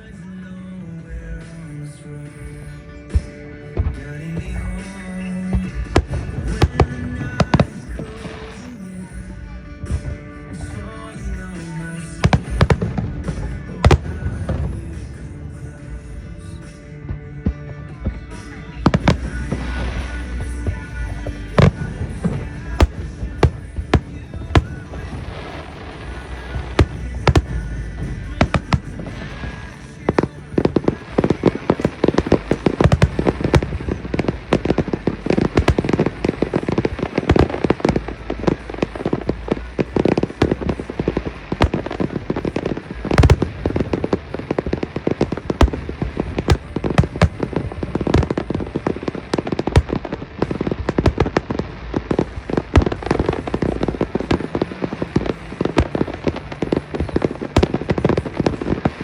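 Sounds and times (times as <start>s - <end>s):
fireworks bangs: 1.1s - 59.0s.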